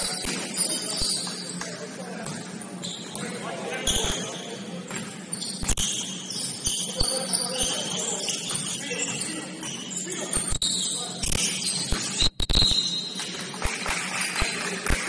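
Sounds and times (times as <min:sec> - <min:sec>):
sneakers squeaking on hardwood: 0:00.0 - 0:13.6.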